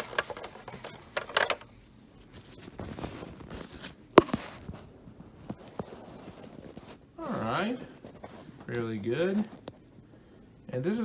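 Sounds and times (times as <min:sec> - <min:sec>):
vacuum cleaner handling rustling: 0:00.0 - 0:09.8.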